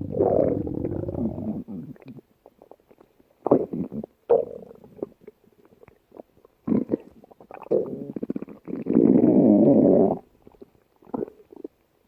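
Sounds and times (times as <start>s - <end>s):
stomach growling: 0.0s - 11.8s.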